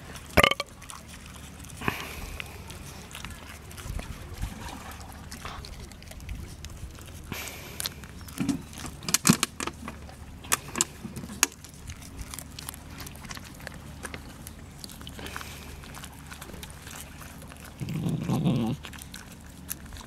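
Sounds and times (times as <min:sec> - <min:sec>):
puppy chewing with crunches: 0:00.0 - 0:20.0.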